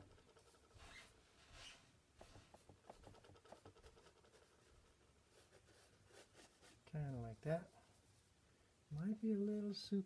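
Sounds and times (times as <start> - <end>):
paintbrush strokes on panel: 0.0 - 8.4.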